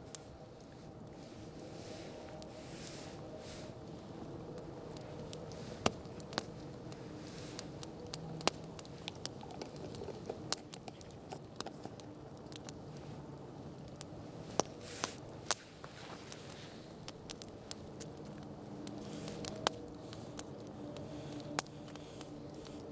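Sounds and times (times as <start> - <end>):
campfire crackling and popping: 0.0 - 22.9
rush of burning flames: 0.0 - 22.9.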